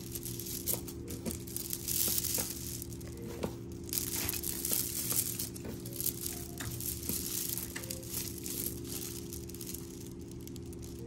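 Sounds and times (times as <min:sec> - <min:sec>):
necklace beads clicking: 0:00.0 - 0:11.0.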